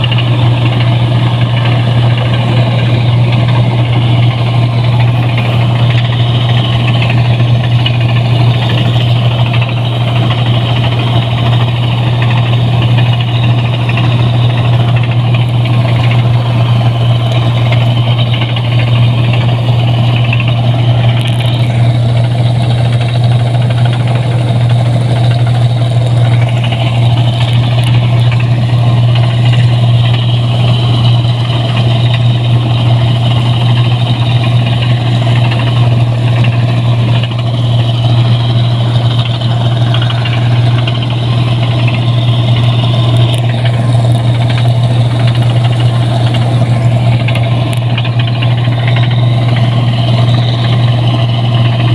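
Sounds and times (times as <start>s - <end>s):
combine harvester engine hum: 0.0s - 51.9s
dense machine noise: 0.0s - 51.9s.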